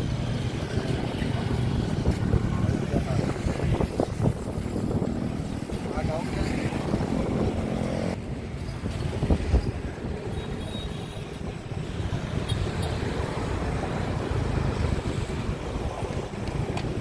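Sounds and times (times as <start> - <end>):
wind on microphone: 0.0 - 10.6, 11.2 - 17.0
traffic rumble: 0.0 - 17.0.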